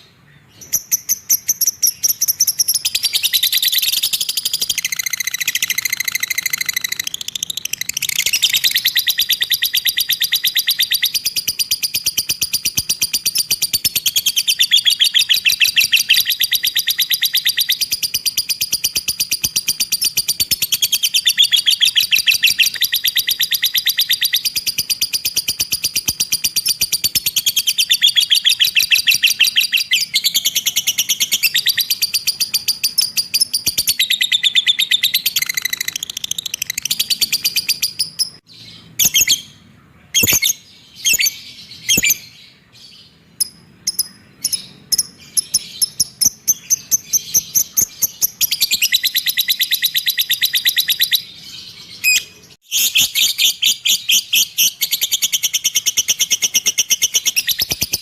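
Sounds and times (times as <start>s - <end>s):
bird trilling and chirping: 0.0s - 58.0s.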